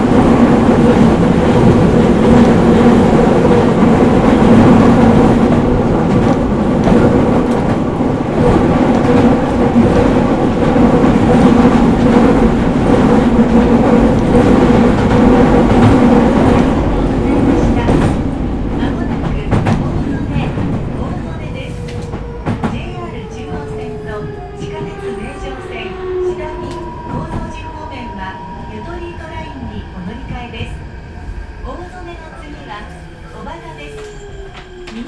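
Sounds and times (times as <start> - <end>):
constant train hum: 0.0 - 35.0
wheels rumbling on rail: 0.0 - 35.0.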